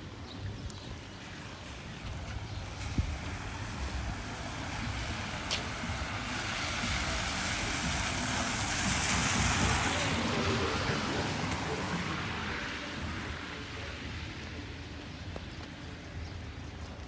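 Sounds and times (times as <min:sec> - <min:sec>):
tyres hissing on wet street: 0:01.5 - 0:16.1.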